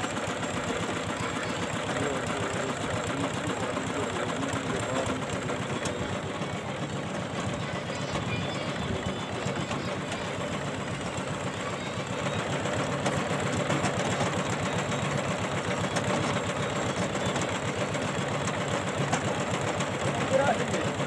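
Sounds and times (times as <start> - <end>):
boring machine engine chugging: 0.0 - 21.0.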